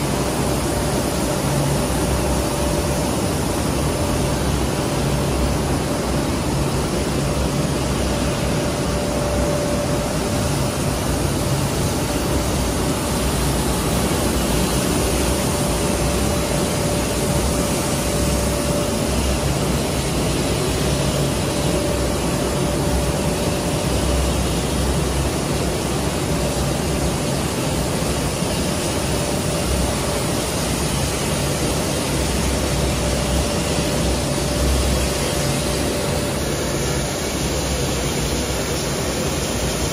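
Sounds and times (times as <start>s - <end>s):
laminating machine whine and hum: 0.0s - 39.9s.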